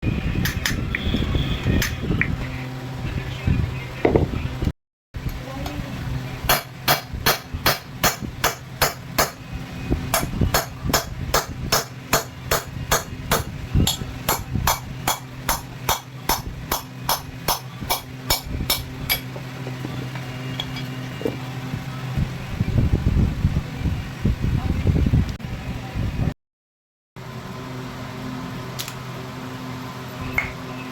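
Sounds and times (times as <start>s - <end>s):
steady machine hum: 0.0s - 26.3s.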